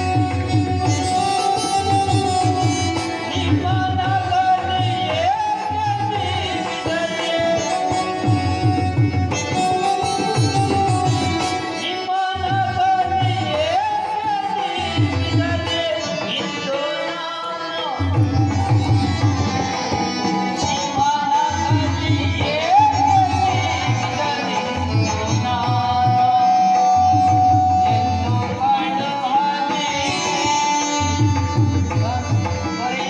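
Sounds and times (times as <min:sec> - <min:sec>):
tabla drum pattern: 0:00.0 - 0:33.0.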